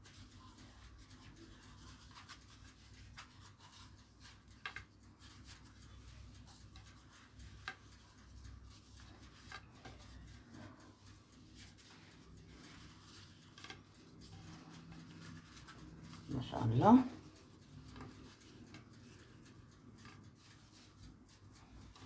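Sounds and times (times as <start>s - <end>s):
dough sheets rustling: 0.0s - 22.0s.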